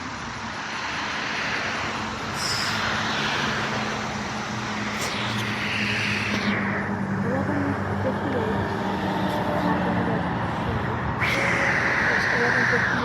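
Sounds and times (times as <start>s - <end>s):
low engine hum: 0.0s - 13.0s
road traffic passing: 0.0s - 13.0s.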